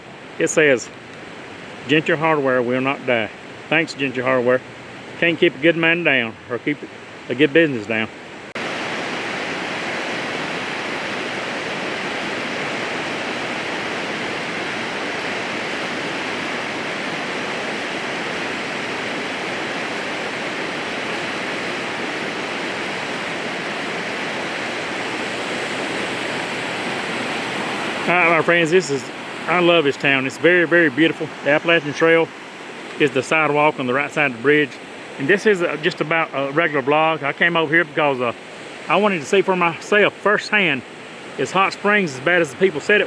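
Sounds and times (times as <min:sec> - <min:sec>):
rushing river water: 0:00.0 - 0:43.0.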